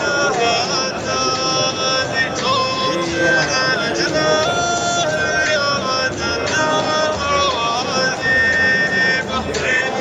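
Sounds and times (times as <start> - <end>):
person singing wedding song: 0.0 - 10.0.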